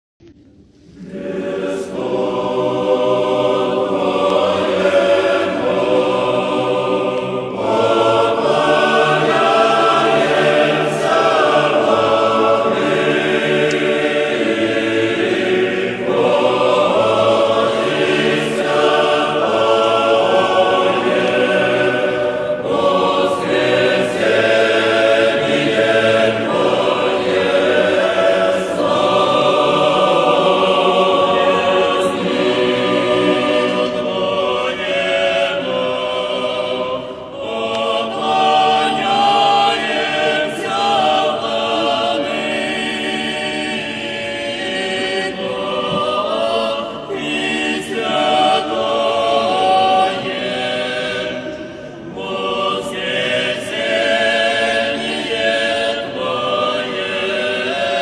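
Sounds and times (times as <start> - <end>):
choir chanting: 0.7 - 58.0.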